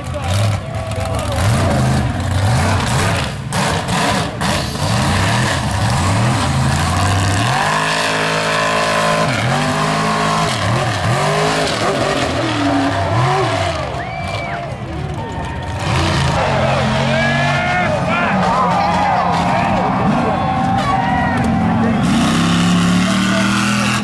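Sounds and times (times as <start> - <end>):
truck engine revving hard: 0.0 - 24.0.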